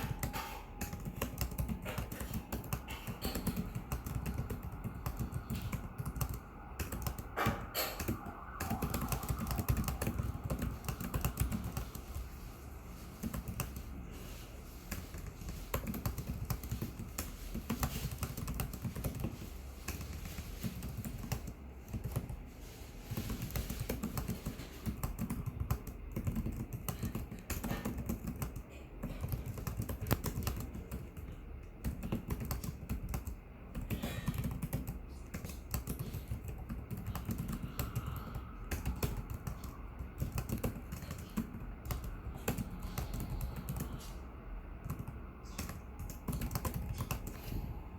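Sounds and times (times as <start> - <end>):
laptop keyboard typing: 0.0 - 47.9.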